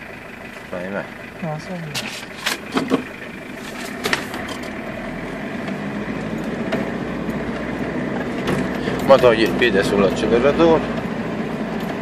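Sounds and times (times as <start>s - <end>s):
car engine under throttle: 0.0s - 12.0s.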